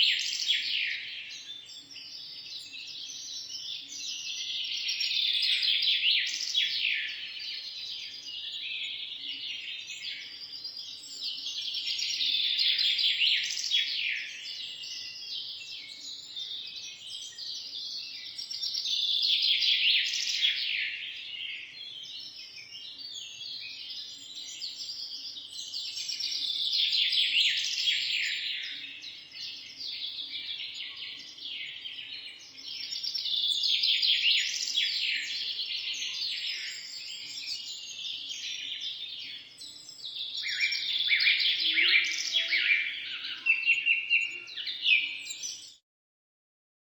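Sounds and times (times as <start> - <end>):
birds chirping and singing: 0.0 - 45.8.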